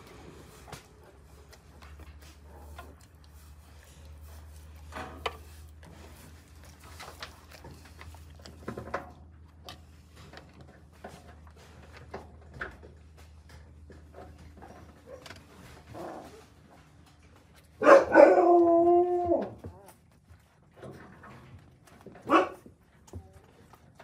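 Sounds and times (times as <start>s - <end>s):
puppies stirring: 0.0s - 24.0s.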